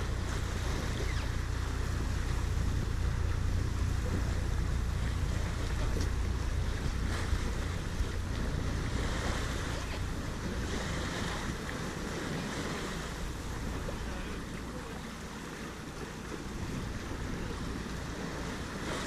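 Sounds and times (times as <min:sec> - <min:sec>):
wind on microphone: 0:00.0 - 0:14.9, 0:15.5 - 0:19.0
water rushing along hull: 0:00.0 - 0:19.0.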